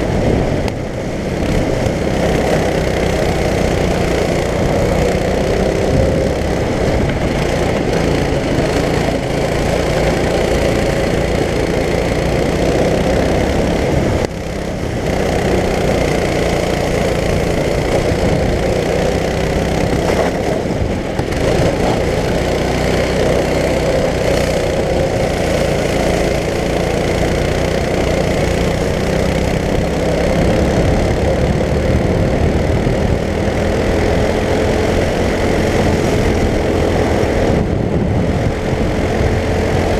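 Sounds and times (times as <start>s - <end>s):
go-kart engine racing: 0.0s - 39.9s.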